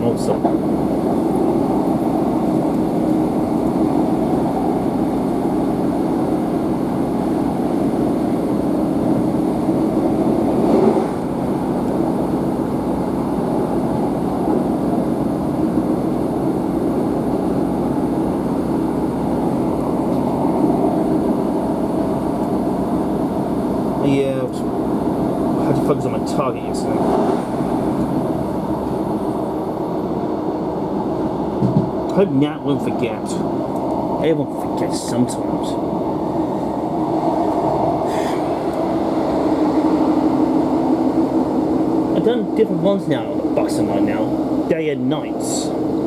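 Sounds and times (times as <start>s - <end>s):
train diesel engine rumble: 0.0s - 46.0s.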